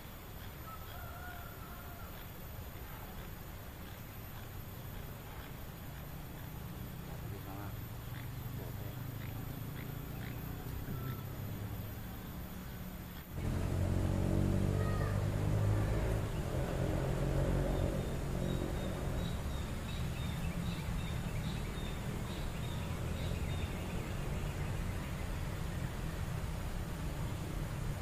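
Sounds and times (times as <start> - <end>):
river running: 0.0 - 28.0
low drone: 5.1 - 28.0.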